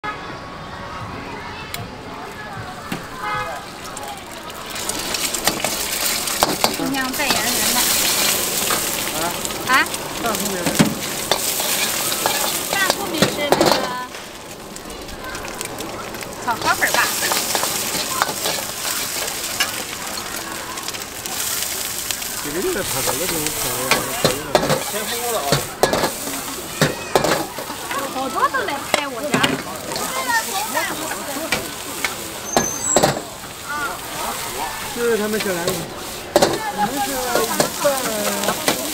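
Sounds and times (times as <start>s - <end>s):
rice sizzling in a wok: 2.8s - 38.9s.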